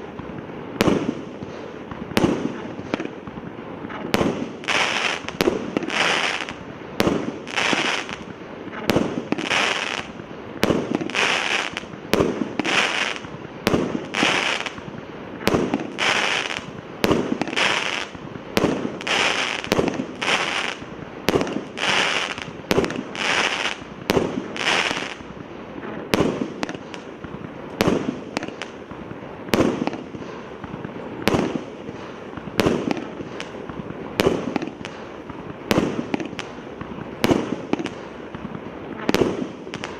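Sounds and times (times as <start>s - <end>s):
firework shots: 0.0s - 39.9s
hissing crackle of fireworks: 0.0s - 39.9s.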